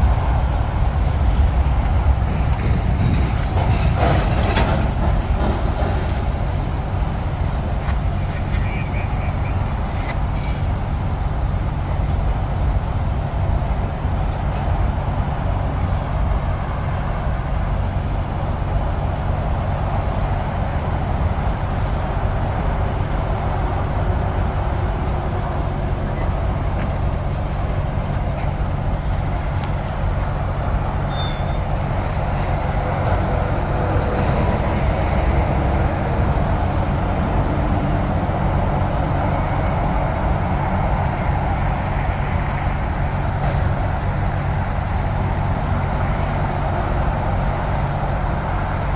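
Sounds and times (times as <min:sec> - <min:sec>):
highway traffic rumble: 0:00.0 - 0:48.9.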